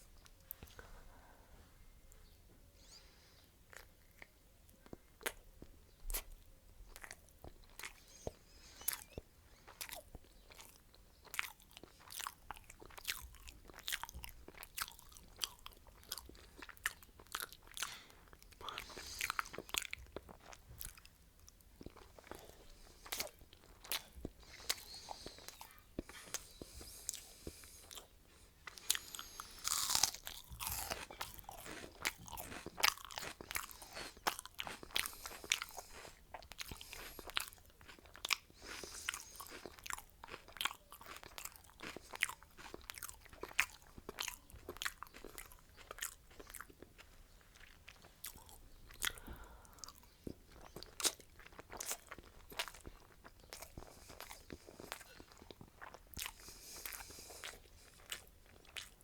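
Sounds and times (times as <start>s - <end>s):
chewing and crunching food: 0.0s - 1.2s, 3.4s - 59.0s.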